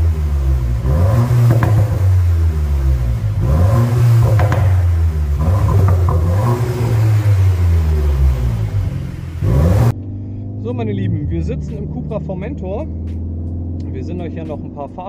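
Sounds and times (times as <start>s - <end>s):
car exhaust revving: 0.0s - 15.0s.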